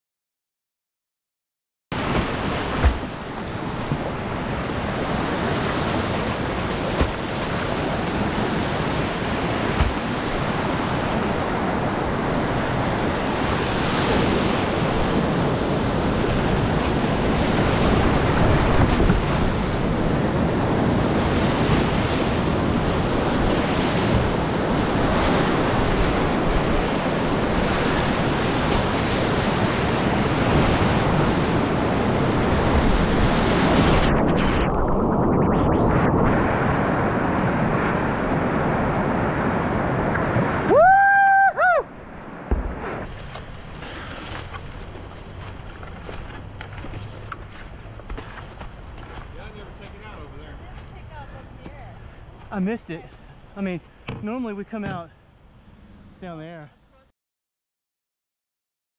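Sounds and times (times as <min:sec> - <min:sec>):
wind noise on microphone: 0:02.0 - 0:49.6.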